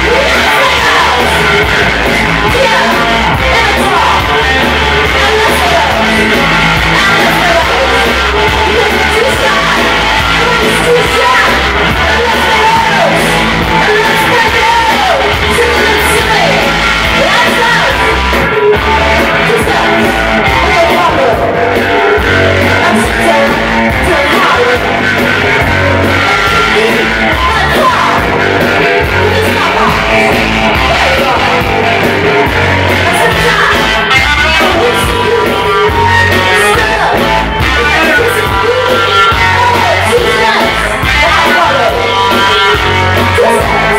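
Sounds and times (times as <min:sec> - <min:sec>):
woman singing into microphone: 0:00.0 - 0:21.6, 0:22.6 - 0:25.0, 0:26.1 - 0:31.8, 0:33.0 - 0:43.9
electric bass: 0:00.0 - 0:43.9
electric guitar: 0:00.0 - 0:43.9.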